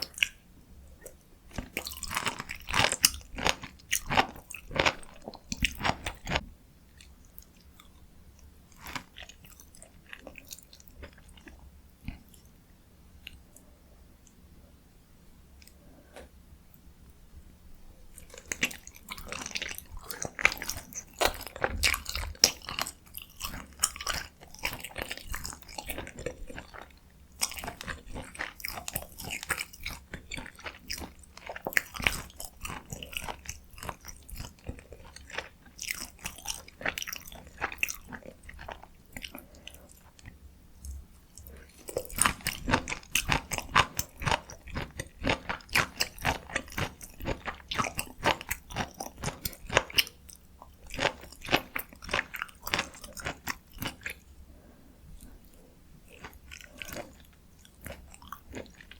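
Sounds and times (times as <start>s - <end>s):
wet chewing and smacking: 0.0s - 0.4s, 1.0s - 12.6s, 18.1s - 58.9s.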